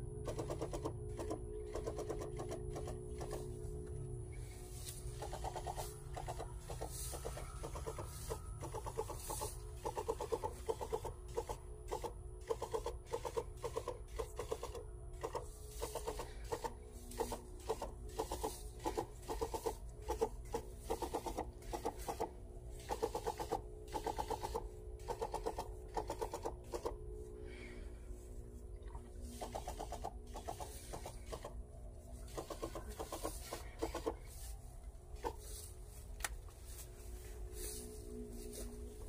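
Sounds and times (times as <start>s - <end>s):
sprayer pump humming and chattering: 0.0s - 39.0s.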